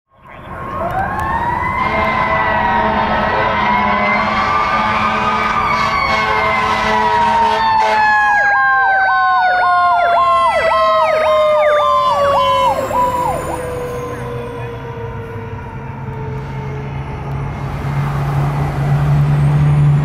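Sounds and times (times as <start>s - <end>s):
fire engine running: 0.1s - 20.0s
wailing siren: 0.2s - 20.0s
yelping siren: 0.4s - 17.8s.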